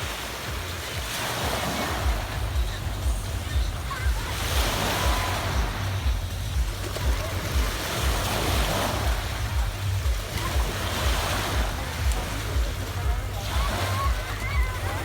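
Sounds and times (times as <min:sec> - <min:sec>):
waves washing onto pebble beach: 0:00.0 - 0:15.0
wind rumble on microphone: 0:00.0 - 0:15.0.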